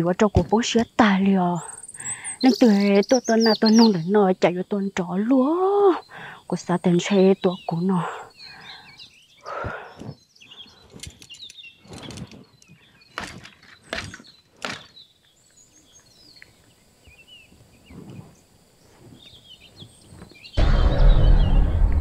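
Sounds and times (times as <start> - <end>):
small birds chirping faintly: 0.0 - 21.9.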